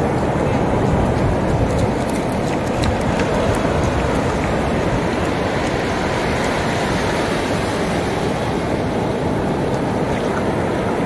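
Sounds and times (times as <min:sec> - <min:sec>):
sea surf washing over sand: 0:00.0 - 0:11.0.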